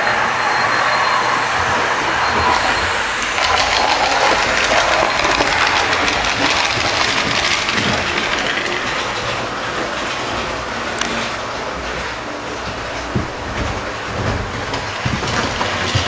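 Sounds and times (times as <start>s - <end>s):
model train rattling on track: 0.0s - 16.0s.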